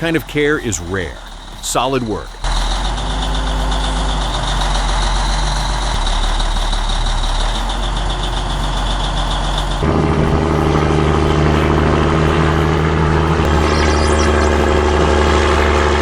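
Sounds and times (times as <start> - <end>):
heavy diesel engine running: 0.0 - 16.0
louder engine with low hum: 0.0 - 16.0.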